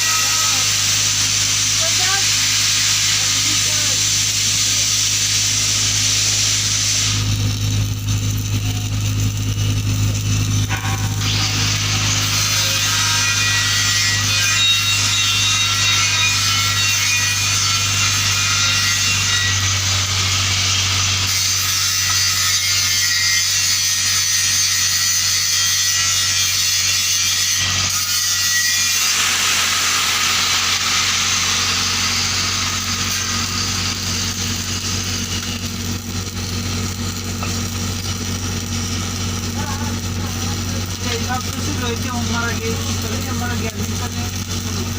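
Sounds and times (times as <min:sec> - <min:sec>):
hissing scraping on steel pipe: 0:00.0 - 0:07.4, 0:10.5 - 0:44.8
low electrical hum: 0:00.0 - 0:24.9, 0:28.8 - 0:44.9.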